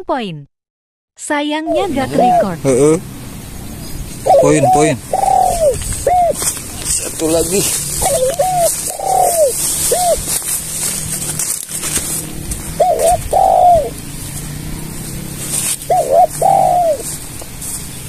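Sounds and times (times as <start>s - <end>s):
dove cooing: 1.7s - 3.0s, 3.7s - 17.3s.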